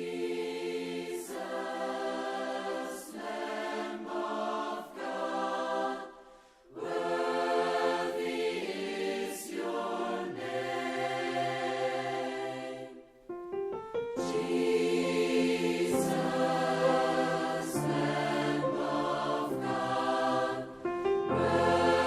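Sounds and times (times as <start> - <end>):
choir singing held chords: 0.0 - 22.0.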